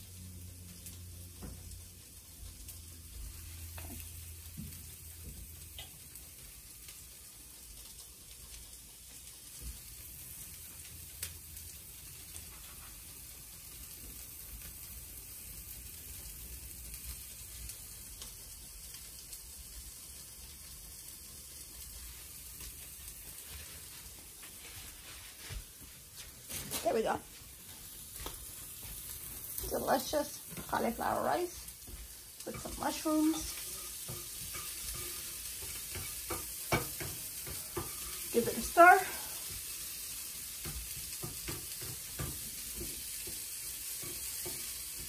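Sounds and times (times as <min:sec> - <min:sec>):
vegetables sizzling in a pan: 0:00.0 - 0:45.0.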